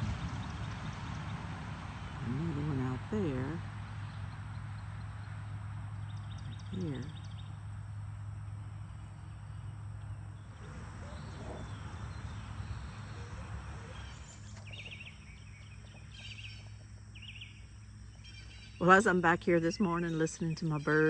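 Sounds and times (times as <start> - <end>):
steady low hum: 0.0 - 21.0
songbird chirping: 2.1 - 21.0.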